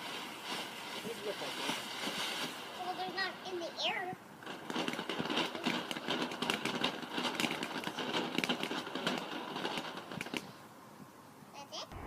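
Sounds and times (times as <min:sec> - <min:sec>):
ground firework crackling: 0:00.0 - 0:12.0.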